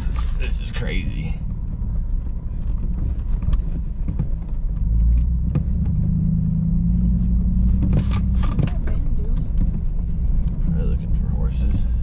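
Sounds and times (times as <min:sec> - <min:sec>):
pickup engine and tyre rumble: 0:00.0 - 0:12.0.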